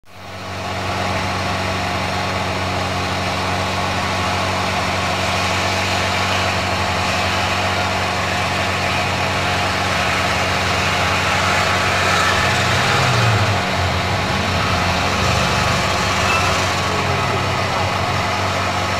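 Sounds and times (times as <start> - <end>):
snowmobile engine running: 0.3 - 18.9.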